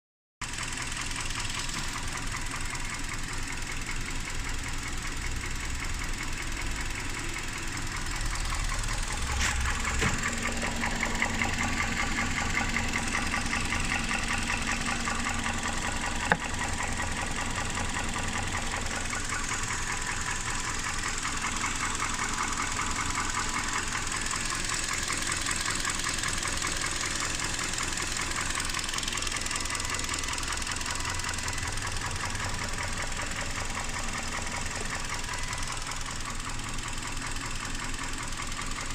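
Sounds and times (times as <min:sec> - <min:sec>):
engine with rapid ticking rattle: 0:00.4 - 0:38.9.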